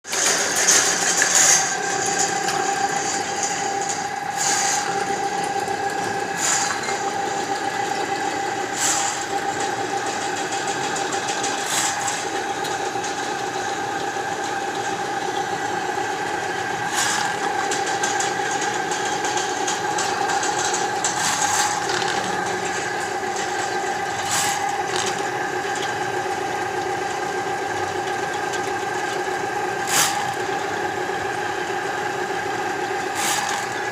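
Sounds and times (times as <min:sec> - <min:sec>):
drain-cleaning machine whine: 0:00.0 - 0:33.9.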